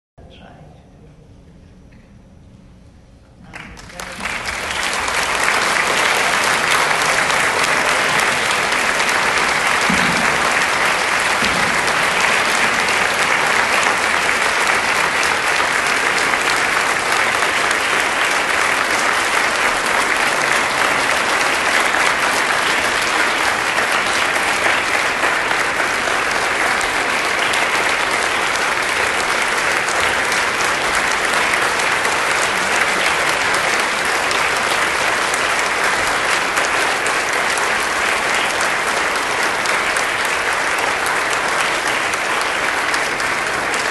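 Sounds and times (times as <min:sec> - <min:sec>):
audience applauding: 0:03.4 - 0:43.9.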